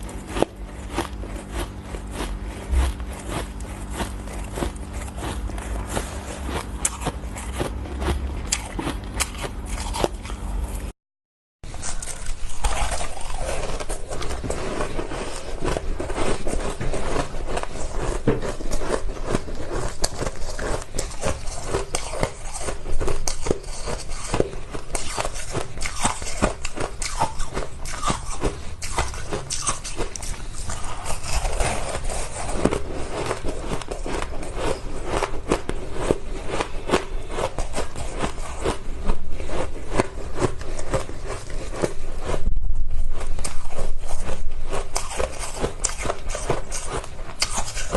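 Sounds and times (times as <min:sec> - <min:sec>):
ice being chewed: 0:00.0 - 0:10.9, 0:11.7 - 0:47.9.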